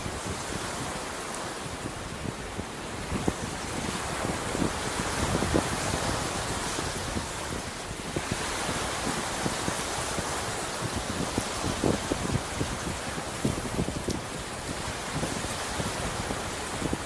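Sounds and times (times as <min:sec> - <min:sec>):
ocean waves on a beach: 0:00.0 - 0:17.0
wind buffeting the microphone: 0:00.0 - 0:17.0.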